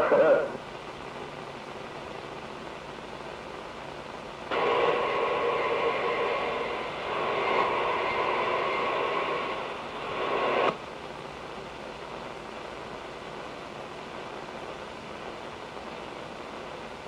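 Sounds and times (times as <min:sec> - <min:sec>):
radio carrier drone with held tones: 0:00.0 - 0:17.0
radio static hiss: 0:00.0 - 0:17.0.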